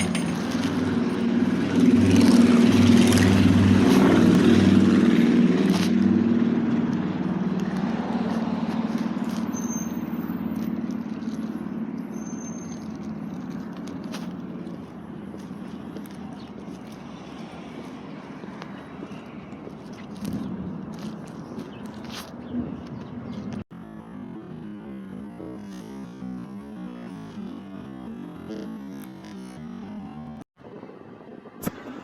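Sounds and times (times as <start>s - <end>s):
vehicle engine running: 0.0s - 21.8s, 22.4s - 30.5s.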